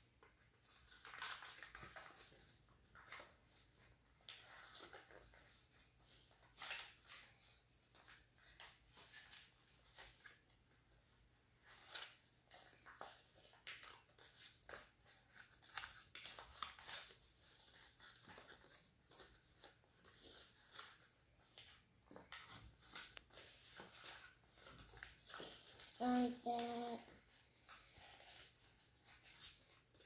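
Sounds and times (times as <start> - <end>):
paper crinkling as folded: 0.3 - 30.0.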